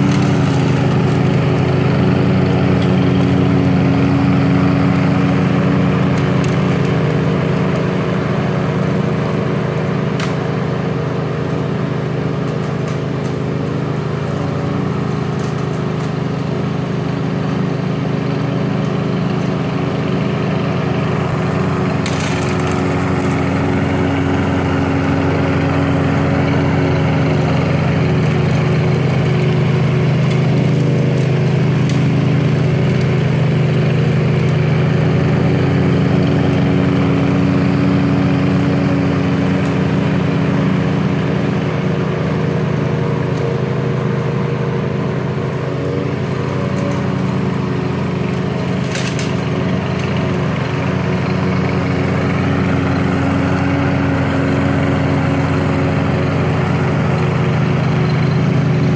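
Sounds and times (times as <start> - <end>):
lawn mower engine cutting grass: 0.0 - 58.9.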